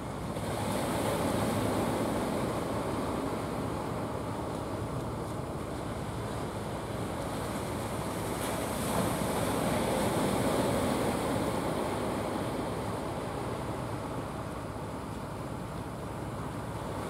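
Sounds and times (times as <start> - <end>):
sea surf rushing: 0.0 - 17.0.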